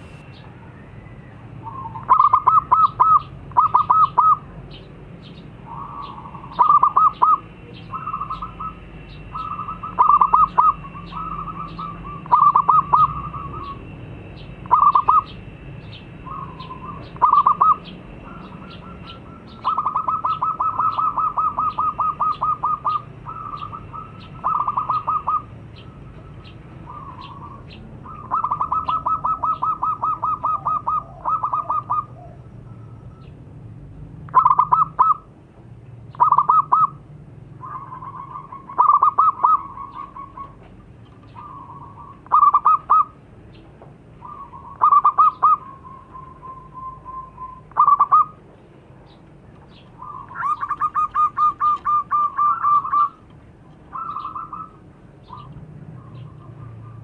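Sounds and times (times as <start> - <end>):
dove cooing: 0.0 - 4.7, 5.6 - 13.9, 14.6 - 15.5, 16.1 - 33.3, 34.3 - 35.3, 36.2 - 43.2, 44.2 - 48.4, 49.7 - 57.0.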